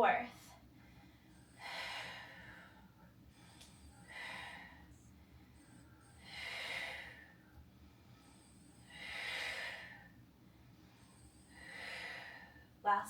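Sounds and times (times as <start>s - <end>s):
woman breathing with effort: 0.4s - 13.0s.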